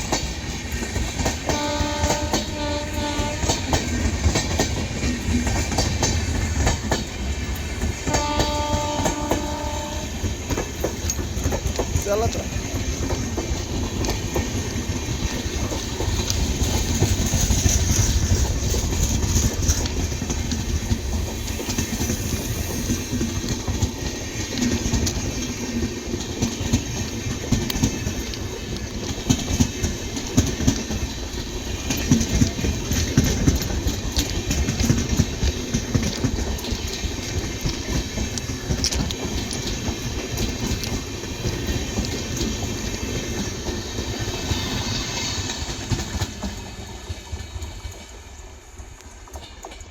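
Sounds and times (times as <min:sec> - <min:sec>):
train wheels clattering: 0:00.0 - 0:49.9.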